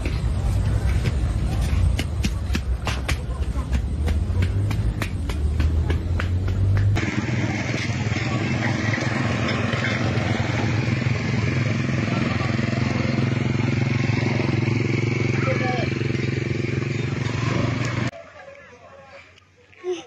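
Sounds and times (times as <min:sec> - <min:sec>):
motorcycle engine running: 0:00.0 - 0:18.1.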